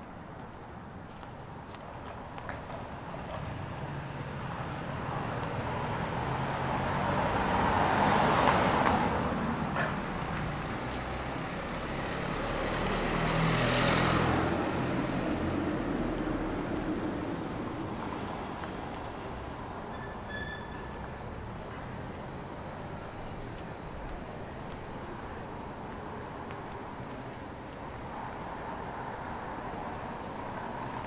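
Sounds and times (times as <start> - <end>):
low traffic hum: 0.0 - 31.0
cars driving past: 2.0 - 31.0.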